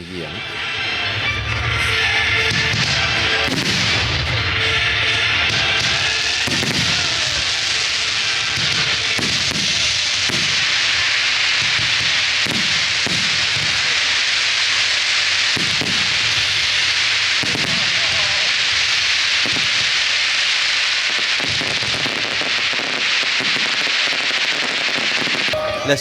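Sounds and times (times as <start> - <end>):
fireworks crackling hiss: 0.0 - 26.0
fireworks low booms: 0.0 - 26.0.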